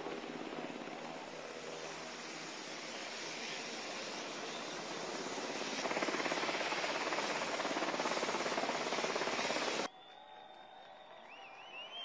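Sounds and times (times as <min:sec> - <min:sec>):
helicopter rotor and turbines: 0:00.0 - 0:09.9.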